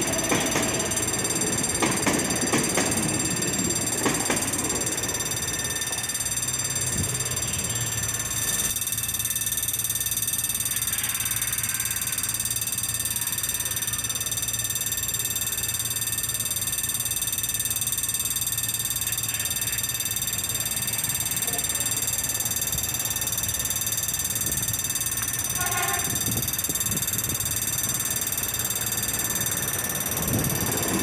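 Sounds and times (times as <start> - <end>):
level crossing warning bell: 0.0 - 31.0.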